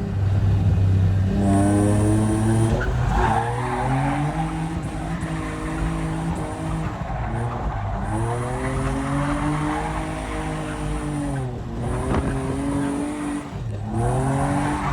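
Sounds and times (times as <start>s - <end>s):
car engine at high revs: 0.0s - 14.9s
tyres skidding on wet track: 1.2s - 14.9s.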